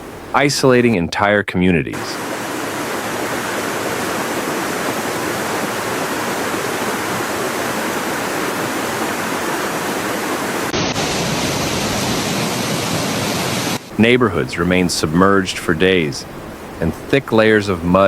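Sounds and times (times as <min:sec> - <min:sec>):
floodwater rushing: 0:00.0 - 0:00.9, 0:02.0 - 0:18.0.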